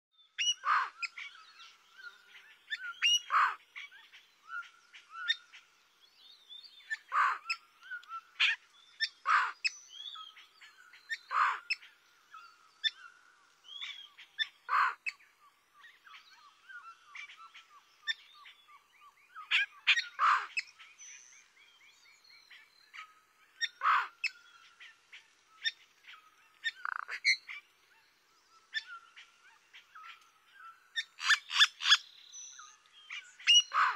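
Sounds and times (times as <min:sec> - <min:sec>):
soft bird chirps and trills: 0:00.1 - 0:33.9.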